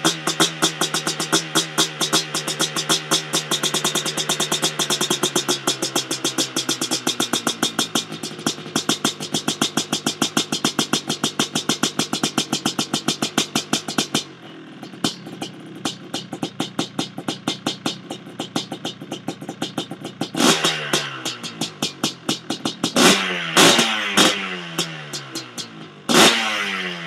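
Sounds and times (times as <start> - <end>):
two-stroke engine idling: 0.0 - 27.0.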